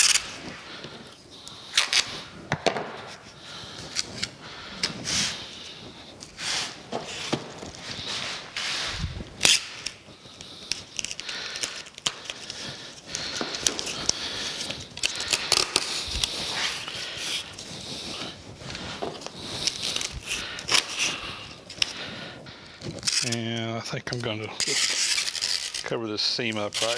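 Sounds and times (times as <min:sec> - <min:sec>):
packing tape unrolling: 0:00.0 - 0:22.1, 0:22.7 - 0:26.9.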